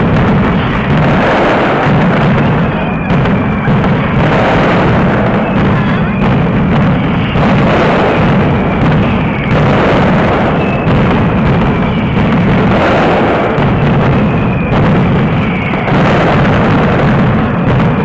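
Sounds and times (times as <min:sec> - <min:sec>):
firecracker barrage: 0:00.0 - 0:18.0
whistling firecrackers: 0:00.0 - 0:18.0.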